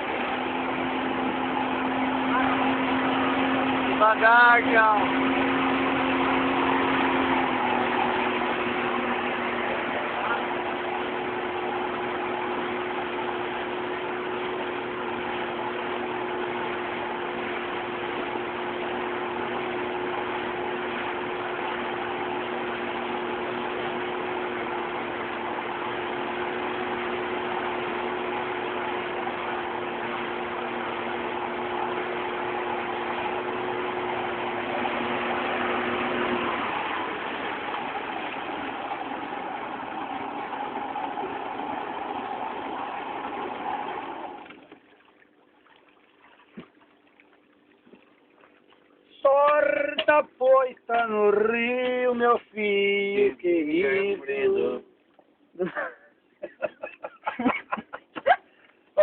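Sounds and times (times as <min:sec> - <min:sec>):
motorboat engine humming: 0:00.0 - 0:59.0.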